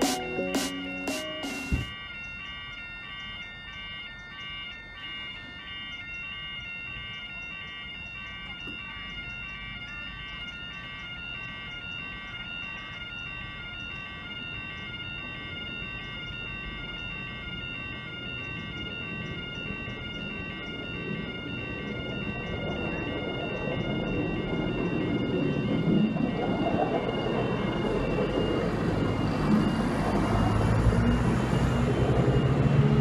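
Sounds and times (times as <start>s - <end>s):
level crossing warning alarm: 0.0s - 33.0s.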